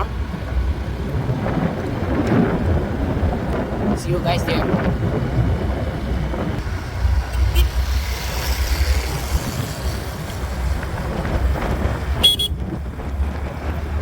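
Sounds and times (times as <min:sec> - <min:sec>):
vehicle driving on rough road: 0:00.0 - 0:14.0
wind rumble on microphone: 0:00.0 - 0:14.0.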